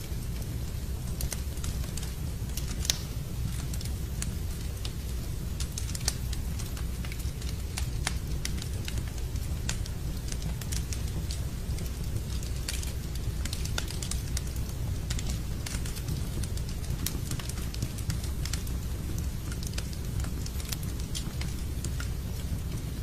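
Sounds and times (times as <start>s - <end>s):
low rush of rain: 0.0s - 23.0s
wood fire crackling: 0.0s - 23.0s.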